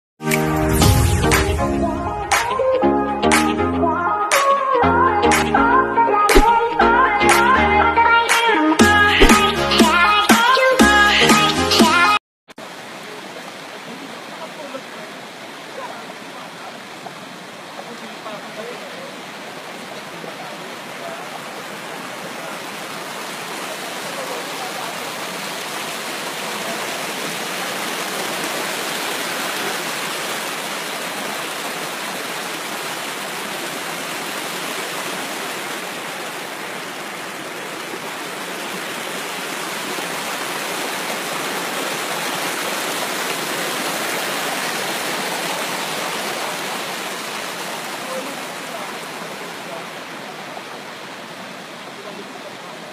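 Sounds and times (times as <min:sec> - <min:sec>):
stream rushing over stones: 0:06.3 - 0:07.5, 0:08.3 - 0:12.0, 0:12.6 - 0:52.9.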